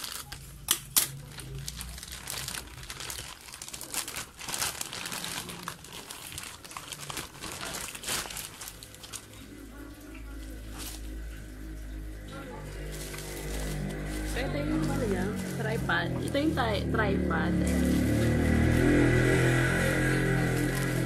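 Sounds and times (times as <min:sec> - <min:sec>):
plastic bag crinkling: 0:00.0 - 0:09.7, 0:12.6 - 0:17.0, 0:17.6 - 0:21.0.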